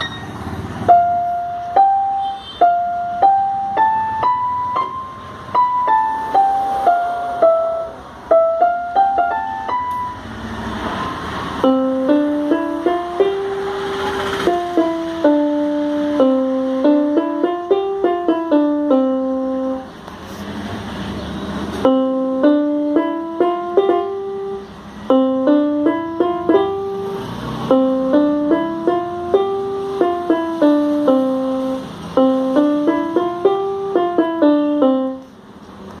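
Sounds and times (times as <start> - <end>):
electronic keyboard melody: 0.0 - 20.4, 21.2 - 36.0.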